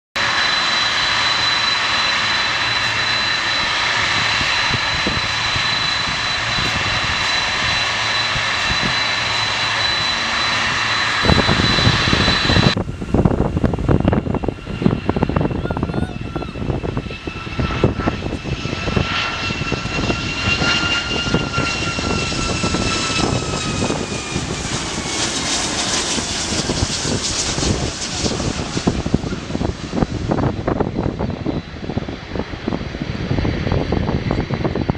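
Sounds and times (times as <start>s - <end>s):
jet engines whining: 0.2s - 34.9s.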